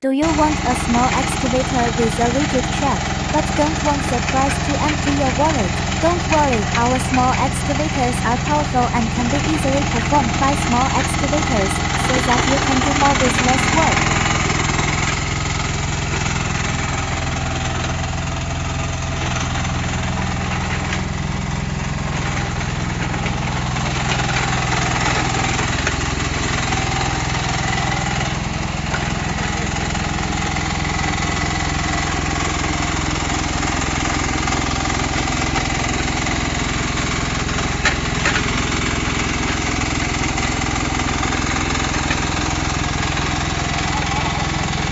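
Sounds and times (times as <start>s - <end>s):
excavator engine running: 0.0s - 44.9s.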